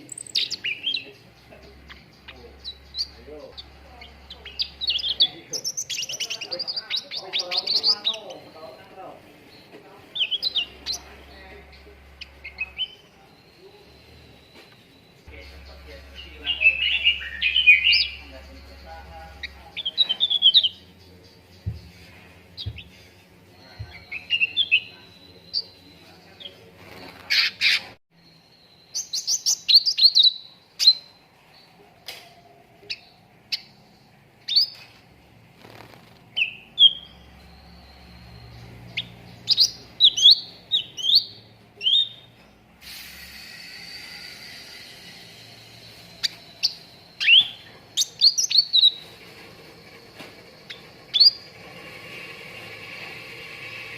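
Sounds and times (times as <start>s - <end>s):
songbird chirps and whistles: 0.0s - 8.9s, 9.5s - 35.0s, 36.4s - 53.9s.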